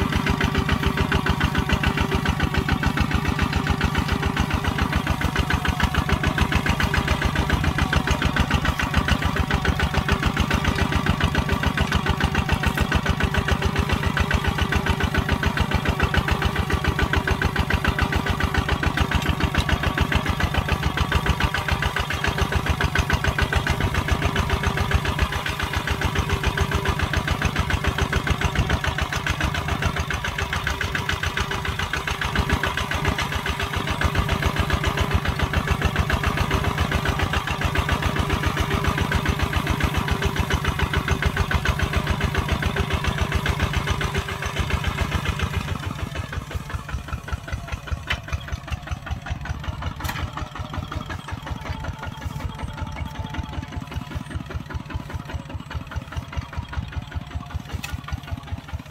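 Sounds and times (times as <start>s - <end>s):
tractor diesel engine chugging: 0.0s - 58.9s.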